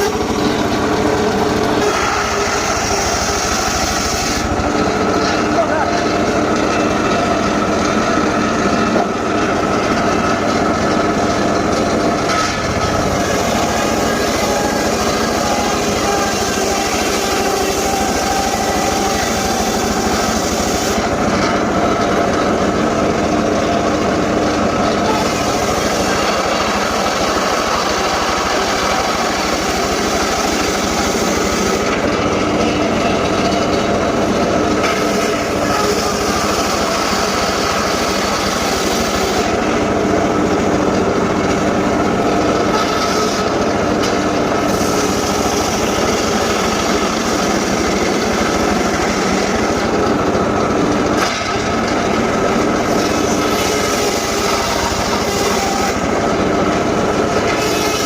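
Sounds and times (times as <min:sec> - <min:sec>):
engine-driven saw running: 0:00.0 - 0:58.0.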